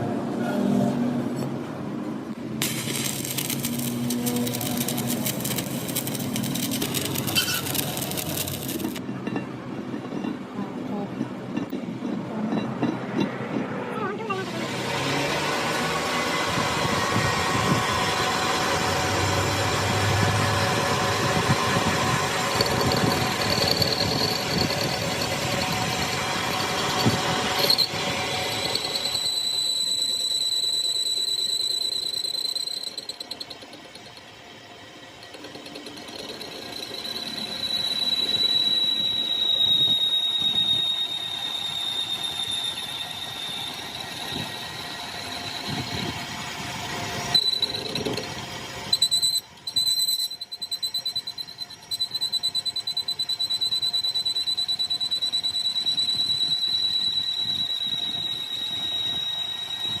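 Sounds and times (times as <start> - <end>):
metalworking machine squealing: 2.6 - 60.0.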